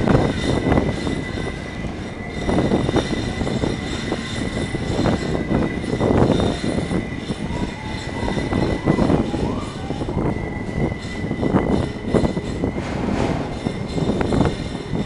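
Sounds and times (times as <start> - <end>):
train knocks and clatter: 0.0 - 15.0
train wheels rumbling on rail: 0.0 - 15.0.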